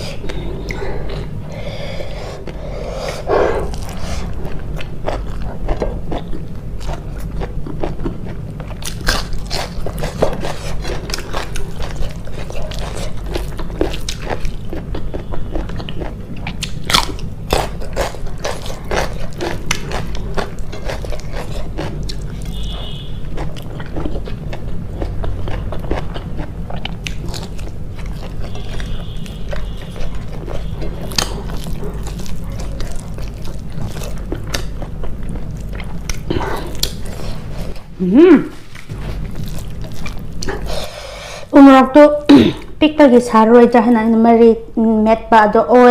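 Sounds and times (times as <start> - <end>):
person chewing crunchy food: 0.0 - 38.0, 38.6 - 41.5
steady low hum: 0.0 - 45.9.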